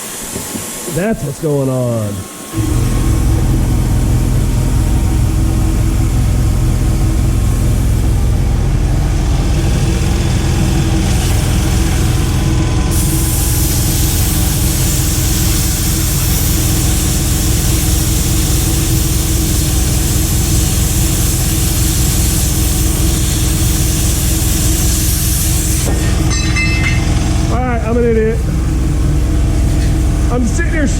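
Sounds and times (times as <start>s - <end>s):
cutting torch hissing: 0.0s - 30.9s
low mechanical drone: 0.0s - 30.9s.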